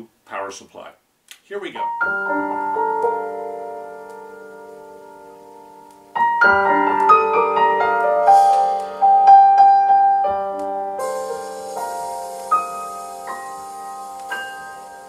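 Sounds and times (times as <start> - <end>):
soft high hiss: 0.0 - 15.0
piano music: 1.7 - 15.0.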